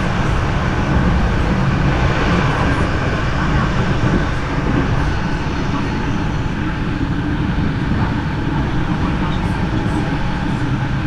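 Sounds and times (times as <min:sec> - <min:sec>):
passenger train rumble: 0:00.0 - 0:11.0.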